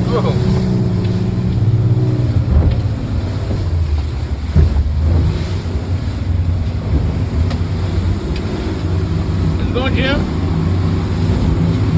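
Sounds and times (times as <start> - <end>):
boat motor rumbling: 0.0 - 11.9
wind buffeting microphone: 0.0 - 11.9.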